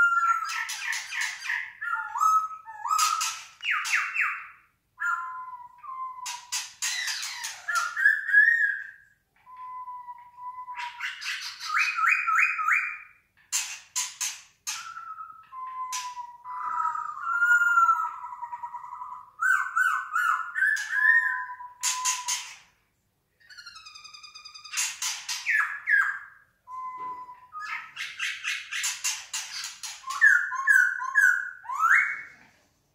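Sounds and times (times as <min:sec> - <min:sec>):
songbirds singing: 0:00.0 - 0:22.8, 0:23.4 - 0:32.4.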